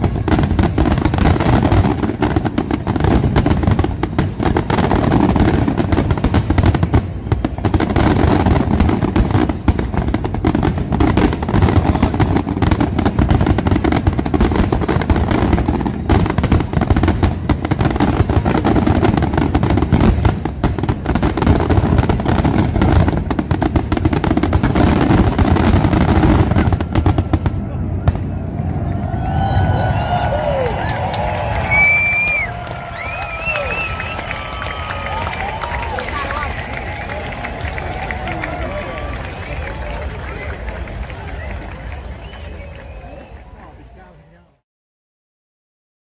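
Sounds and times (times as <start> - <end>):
fireworks bangs and crackling: 0.0 - 44.4.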